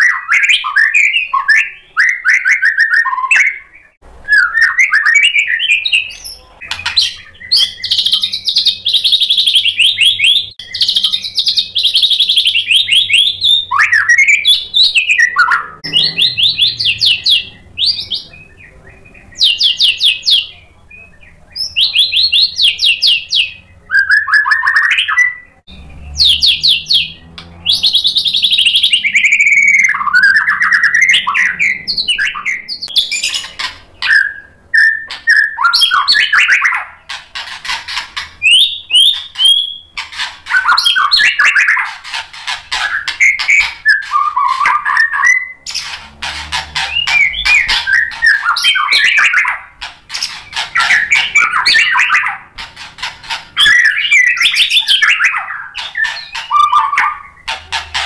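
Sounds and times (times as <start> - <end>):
bird singing trills and whistles: 0.0 - 58.0.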